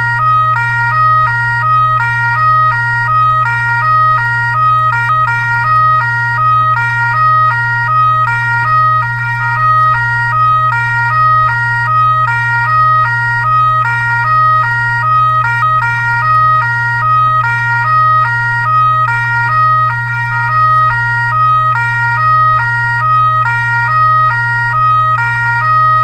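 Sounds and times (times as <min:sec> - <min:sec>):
steady low hum: 0:00.0 - 0:26.0
two-tone fire truck siren: 0:00.0 - 0:26.0.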